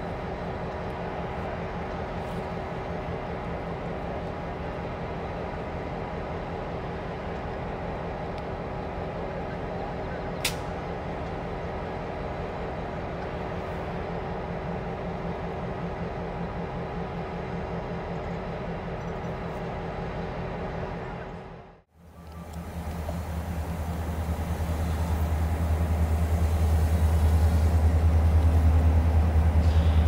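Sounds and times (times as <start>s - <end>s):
diesel locomotives idling: 0.0s - 30.0s.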